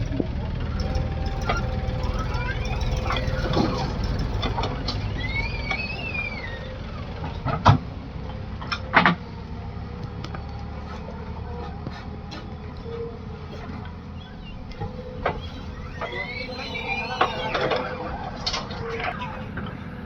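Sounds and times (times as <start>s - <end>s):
heavy diesel machinery rumbling: 0.0s - 20.0s.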